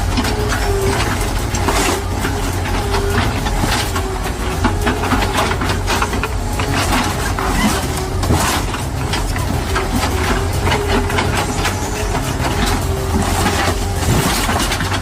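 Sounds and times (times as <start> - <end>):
heavy machine engine running: 0.0 - 15.0
material crackling and crunching: 0.0 - 15.0.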